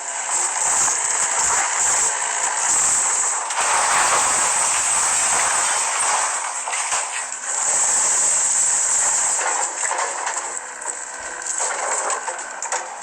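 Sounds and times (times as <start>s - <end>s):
wood crunching and splintering: 0.2s - 13.0s.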